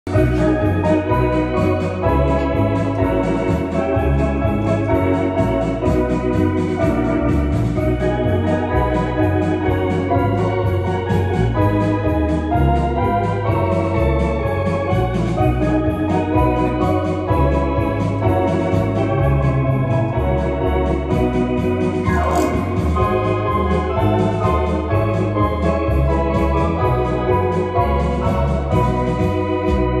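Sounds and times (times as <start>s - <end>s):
ballpark organ playing: 0.1s - 30.0s.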